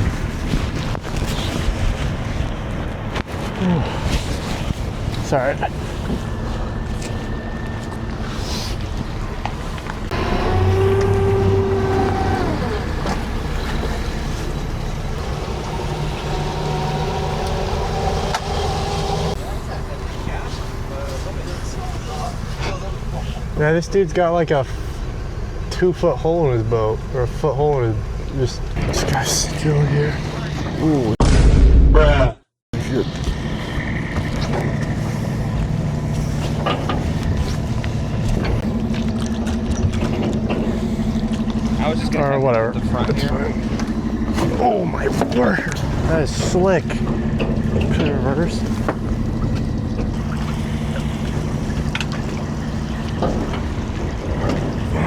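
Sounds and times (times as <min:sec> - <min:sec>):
boat engine running: 0:00.0 - 0:31.2, 0:32.8 - 0:55.0
water noise: 0:00.0 - 0:31.6, 0:32.8 - 0:55.0
wind: 0:00.0 - 0:55.0.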